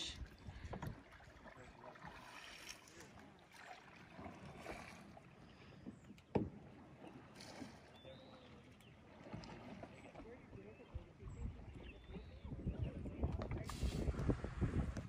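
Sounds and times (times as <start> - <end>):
paddle splashes and drips: 0.0 - 12.6.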